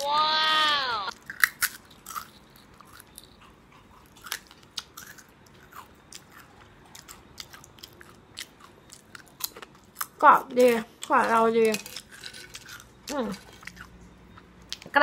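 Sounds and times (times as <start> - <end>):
crunchy snack chewing: 0.1 - 10.2, 11.3 - 14.9.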